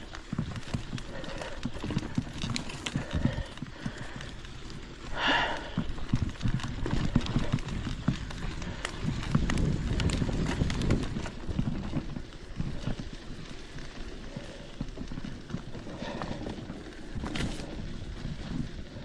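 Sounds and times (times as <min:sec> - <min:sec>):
footsteps on a trail: 0:00.0 - 0:19.0.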